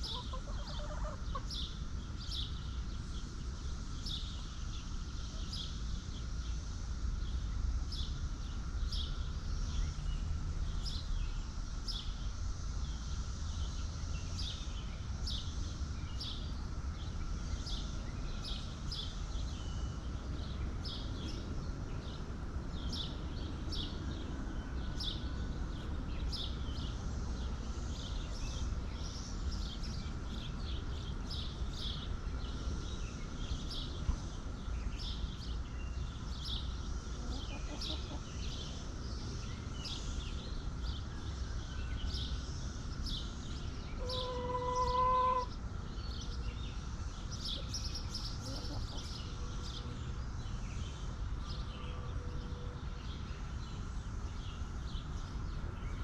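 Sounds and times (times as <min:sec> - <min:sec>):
small bird chirping: 0:00.0 - 0:06.3, 0:12.8 - 0:51.8
low outdoor rumble: 0:00.0 - 0:56.0.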